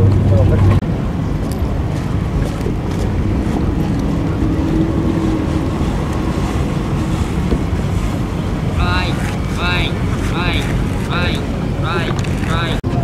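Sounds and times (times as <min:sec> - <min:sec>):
car engine rumbling: 0:00.0 - 0:13.0
wind buffeting microphone: 0:00.0 - 0:13.0.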